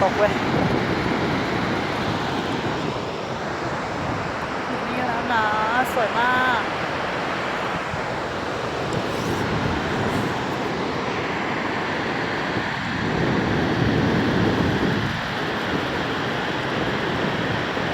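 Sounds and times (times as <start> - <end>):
waterfall roaring: 0.0 - 17.9.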